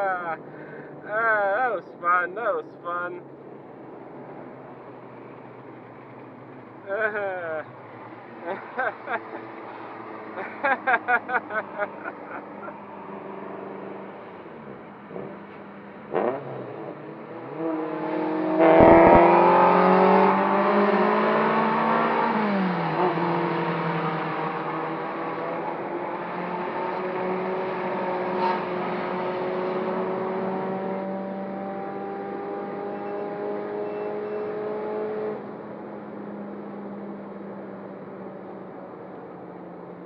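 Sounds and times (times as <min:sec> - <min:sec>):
car engine accelerating hard: 0:05.0 - 0:39.6.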